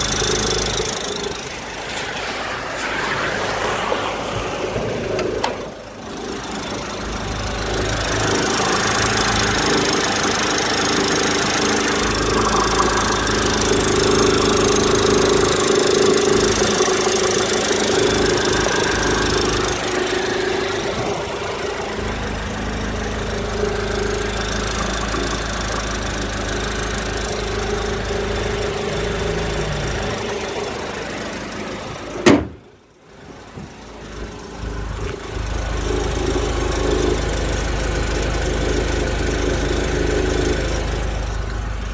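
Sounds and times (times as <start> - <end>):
car engine idling: 0.0 - 41.9
strange engine noise: 0.0 - 41.9.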